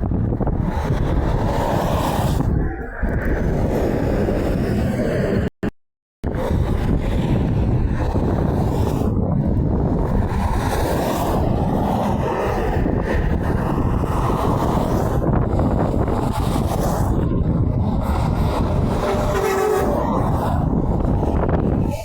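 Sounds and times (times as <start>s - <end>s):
wind buffeting microphone: 0.0s - 5.5s, 6.2s - 22.0s.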